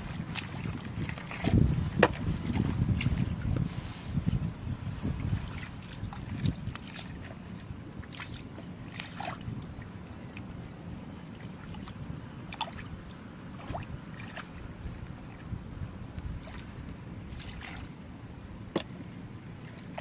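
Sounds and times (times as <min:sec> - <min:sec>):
muddy water splashing: 0:00.0 - 0:10.6, 0:11.2 - 0:15.5, 0:16.1 - 0:18.1, 0:19.6 - 0:20.0.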